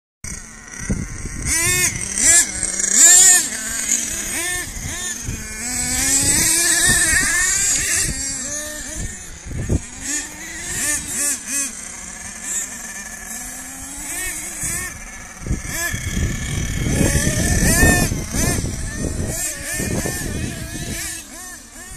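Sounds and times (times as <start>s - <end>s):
rc truck engines revving: 0.2s - 21.9s.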